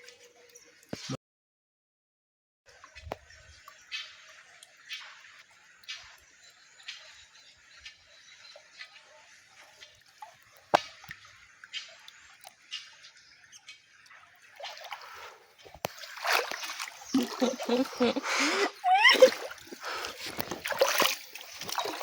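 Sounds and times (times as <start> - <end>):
water dripping and splashing: 2.7 - 22.0.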